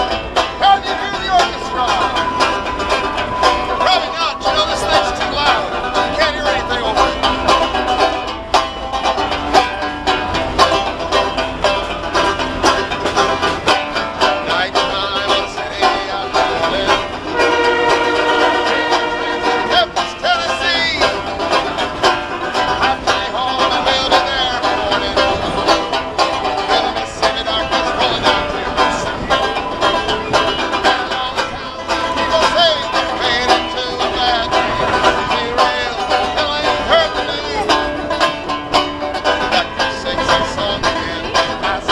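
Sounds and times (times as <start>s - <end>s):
banjo picking: 0.0s - 41.9s
steady held tone: 0.0s - 41.9s.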